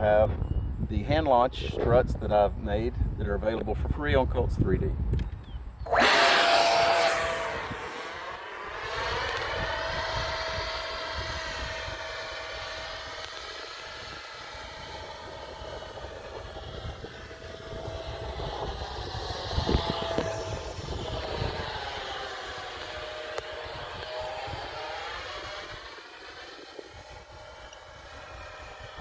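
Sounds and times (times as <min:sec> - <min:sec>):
model jet fan whining: 0:00.0 - 0:29.0
wind rumbling on microphone: 0:00.0 - 0:29.0.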